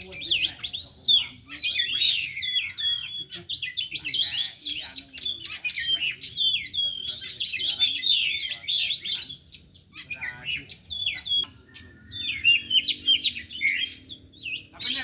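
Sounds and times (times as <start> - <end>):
birds singing whistles and chirps: 0.0 - 15.0.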